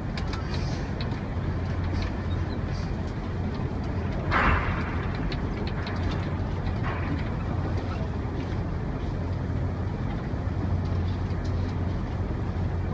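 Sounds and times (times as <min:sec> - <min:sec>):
low engine hum: 0:00.0 - 0:12.9.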